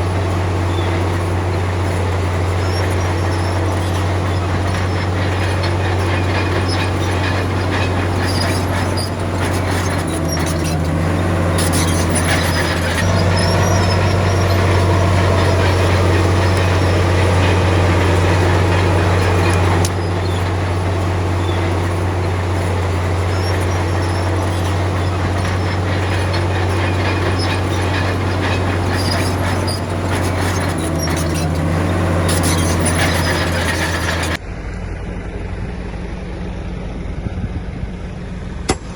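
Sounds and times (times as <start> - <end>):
steel tracks rattling and squealing: 0.0 - 34.4
bulldozer diesel engine droning: 0.0 - 38.9.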